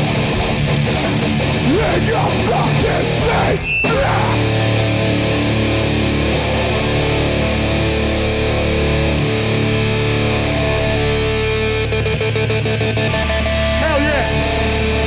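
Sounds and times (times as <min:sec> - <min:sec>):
distorted guitars and bass chord: 0:00.0 - 0:15.0.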